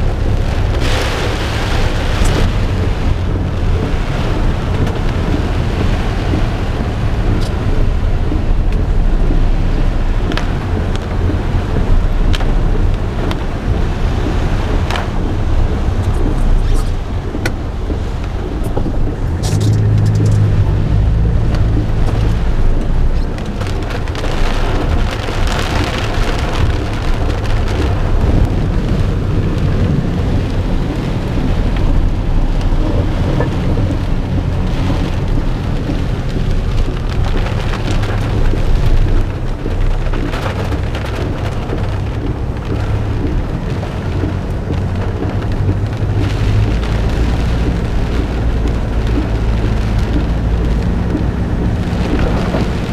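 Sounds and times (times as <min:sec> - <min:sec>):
heavy rain pouring: 0:00.0 - 0:52.9
low thunder rumble: 0:00.0 - 0:52.9.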